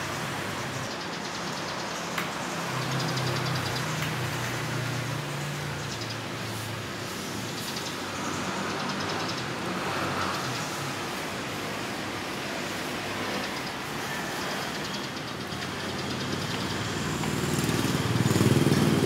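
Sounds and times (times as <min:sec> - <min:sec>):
background street noise: 0:00.0 - 0:19.0.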